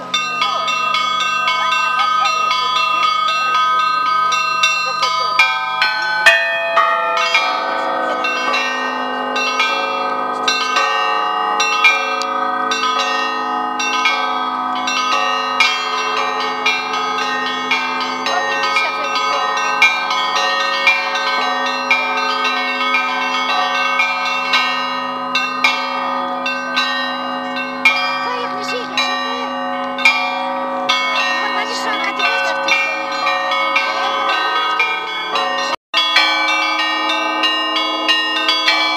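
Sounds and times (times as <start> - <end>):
church bells pealing: 0.0 - 38.9
large bells ringing: 0.0 - 38.9
small bells struck rapidly: 0.0 - 38.9.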